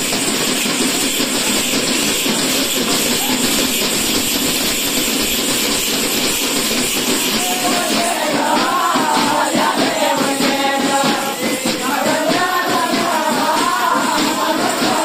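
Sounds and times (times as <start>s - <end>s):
ankle bells jingling: 0.0s - 15.0s
frame drums beaten by hand: 0.0s - 15.0s.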